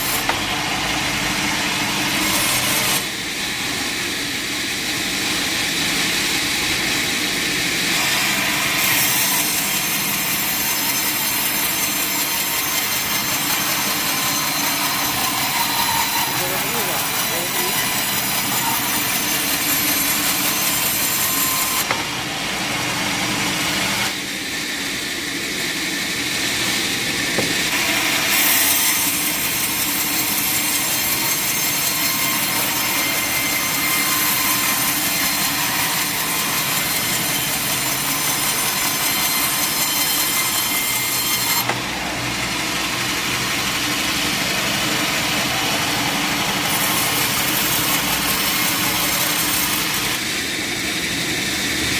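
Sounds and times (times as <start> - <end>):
sawmill saw cutting wood: 0.0 - 51.9.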